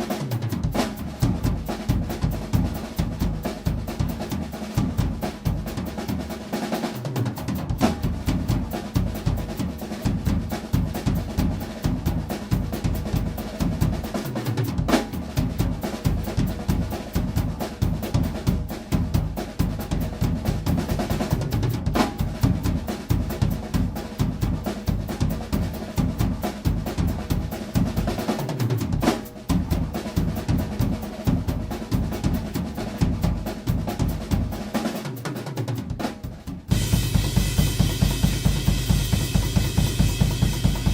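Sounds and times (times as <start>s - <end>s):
drum kit solo: 0.0s - 40.9s.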